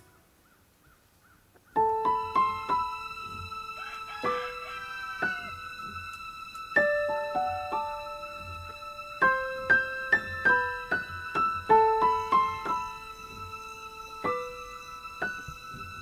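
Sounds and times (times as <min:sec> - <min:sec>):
slow piano melody: 0:01.7 - 0:16.0.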